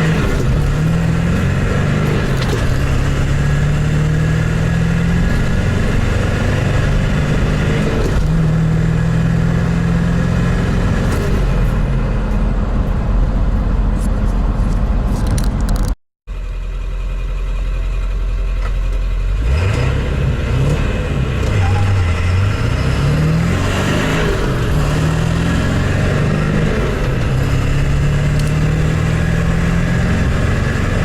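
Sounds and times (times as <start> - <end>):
diesel truck engine accelerating: 0.0 - 31.0.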